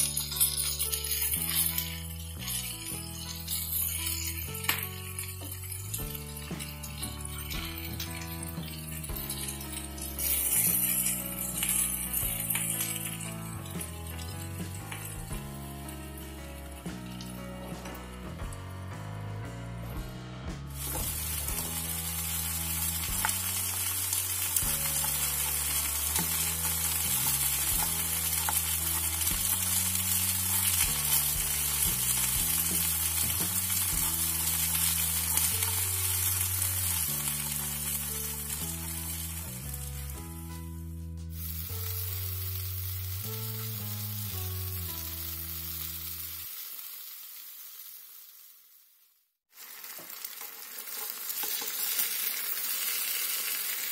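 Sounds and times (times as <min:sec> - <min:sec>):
vegetables sizzling in oil: 0:00.0 - 0:18.3, 0:20.7 - 0:40.6, 0:41.3 - 0:53.9
background music with bass line: 0:00.0 - 0:46.0.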